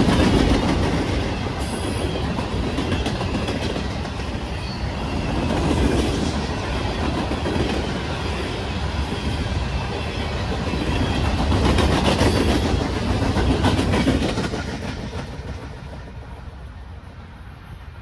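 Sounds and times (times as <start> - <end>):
freight train wheels clacking: 0.0 - 17.2.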